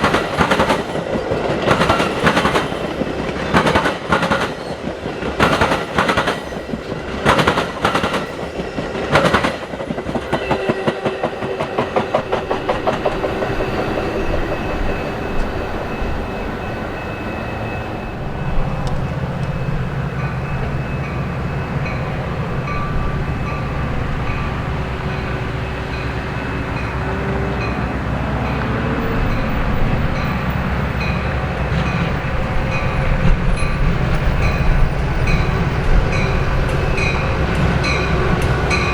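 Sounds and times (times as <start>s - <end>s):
train low rumble: 0.0s - 38.9s
train wheels clattering over rails: 0.0s - 38.9s.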